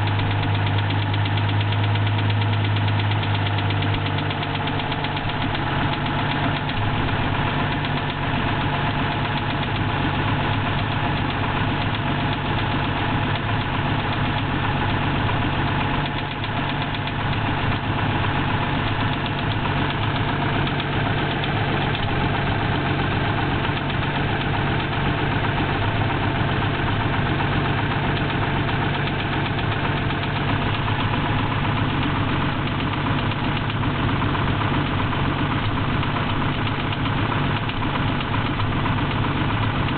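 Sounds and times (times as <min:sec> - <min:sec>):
engine knock rapping: 0:00.0 - 0:39.9
petrol engine running: 0:00.0 - 0:39.9.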